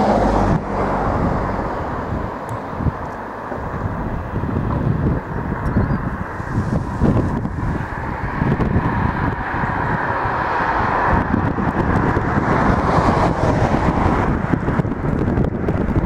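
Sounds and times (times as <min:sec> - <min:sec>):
traffic noise: 0:00.0 - 0:16.0
wind buffeting microphone: 0:00.0 - 0:16.0.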